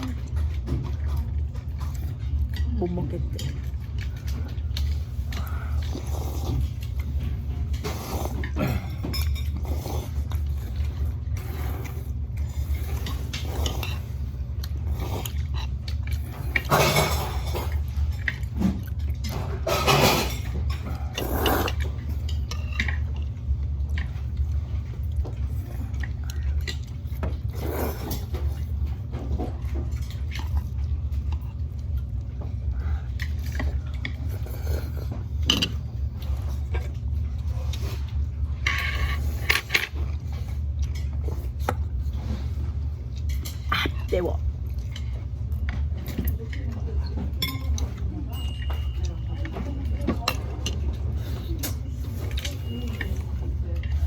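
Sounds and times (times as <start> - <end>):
steady low hum: 0.0 - 54.0
utensils clinking on dishes: 0.0 - 54.0.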